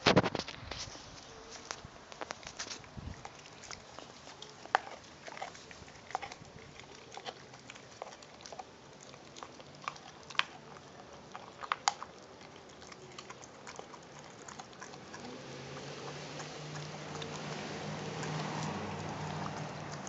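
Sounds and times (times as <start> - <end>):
dog chewing meat on bone: 2.1 - 20.0.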